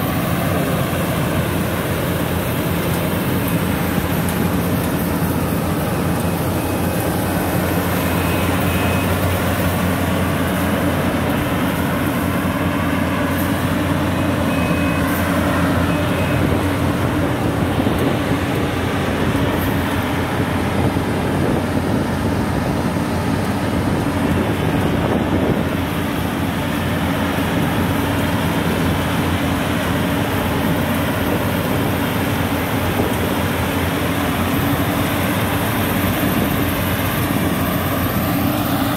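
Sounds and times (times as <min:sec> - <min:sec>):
combine harvester diesel engine running: 0:00.0 - 0:38.9.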